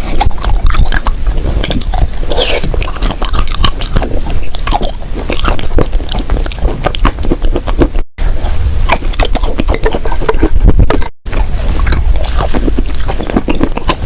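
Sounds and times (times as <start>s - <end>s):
chewing crunchy clay: 0.0s - 14.0s.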